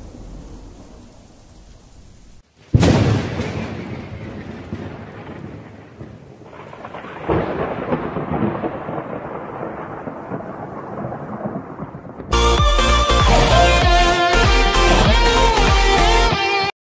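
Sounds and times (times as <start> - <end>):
thunder rumbling: 0.0 - 16.2.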